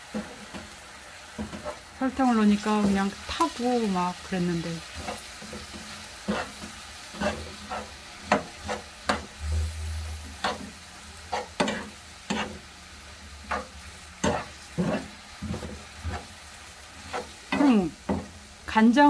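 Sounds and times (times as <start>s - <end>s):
frying oil sizzling: 0.0s - 19.0s
metal spoon scraping frying pan: 1.4s - 3.6s, 4.8s - 18.4s.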